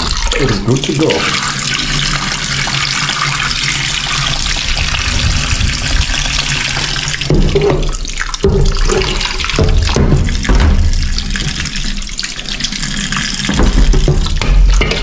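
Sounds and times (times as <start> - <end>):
tap water splashing into sink: 0.0 - 15.0
water poured from bowl into sink: 0.0 - 15.0.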